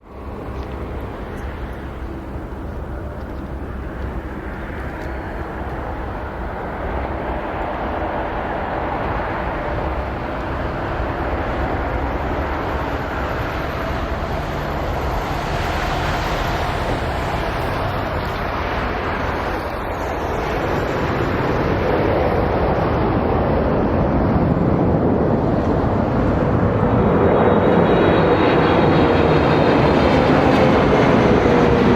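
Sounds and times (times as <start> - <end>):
jet engine roar: 0.0 - 31.9.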